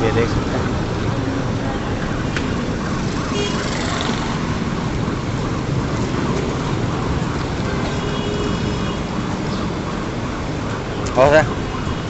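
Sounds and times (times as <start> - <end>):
people on street: 0.0 - 12.0
street traffic: 0.0 - 12.0.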